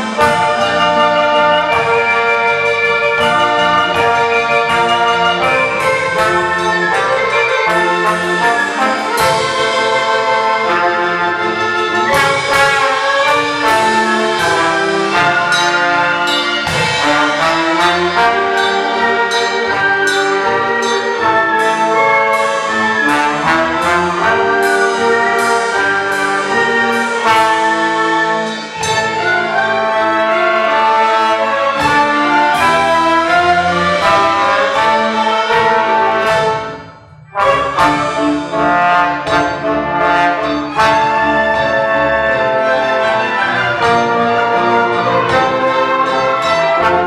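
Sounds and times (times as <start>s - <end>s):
brass chords: 0.0s - 47.0s
orchestra playing: 0.0s - 47.0s.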